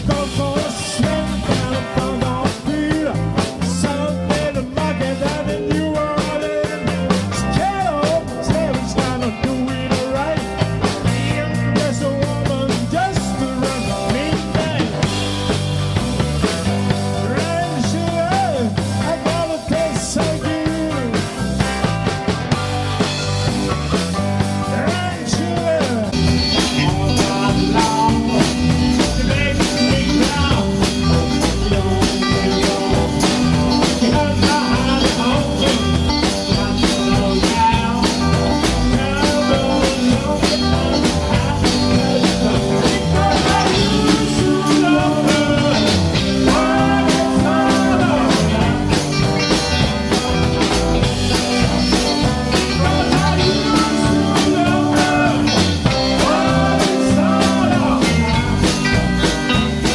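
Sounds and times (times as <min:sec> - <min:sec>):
man singing: 0:00.0 - 0:15.2, 0:16.6 - 0:21.8, 0:24.2 - 0:59.9
rock band playing: 0:00.0 - 0:59.9.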